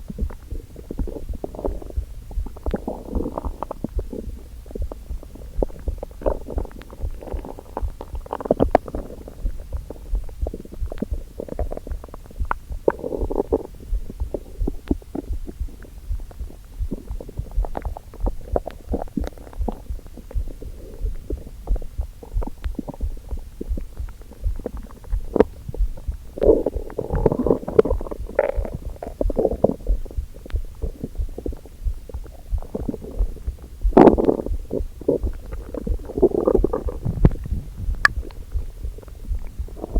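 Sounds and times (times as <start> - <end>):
stomach rumbling and gurgling: 0.0 - 39.9.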